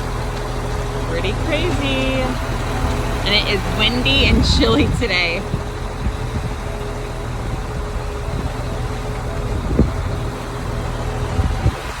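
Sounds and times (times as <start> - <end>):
large diesel engine running: 0.0 - 12.0
wind gusting on microphone: 0.0 - 12.0.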